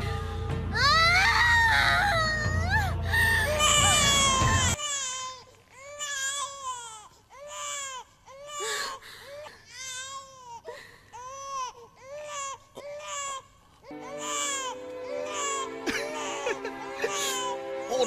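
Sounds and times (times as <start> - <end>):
newborn baby crying: 1.2 - 10.6, 11.2 - 17.6.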